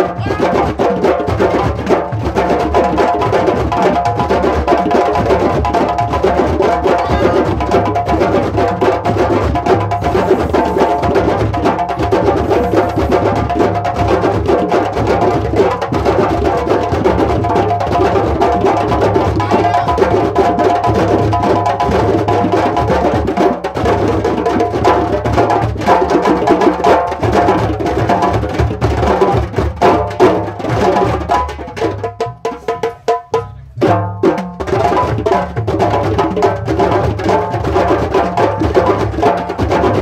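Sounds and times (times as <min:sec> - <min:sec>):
djembes played by hand: 0:00.0 - 0:40.0.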